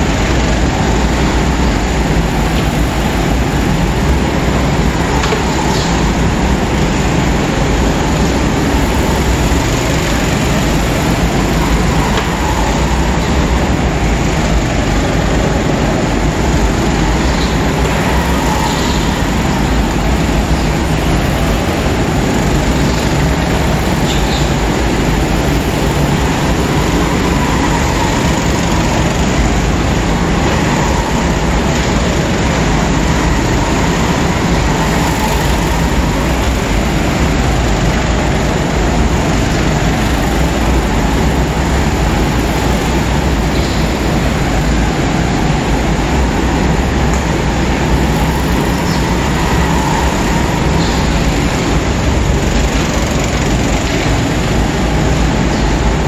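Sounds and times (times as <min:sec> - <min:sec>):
go-karts racing: 0:00.0 - 0:56.0.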